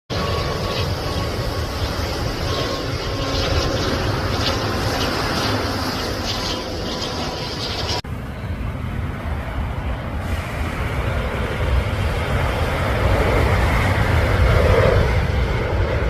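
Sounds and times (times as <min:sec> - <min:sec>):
jet airliner engine rumble: 0:00.1 - 0:16.0.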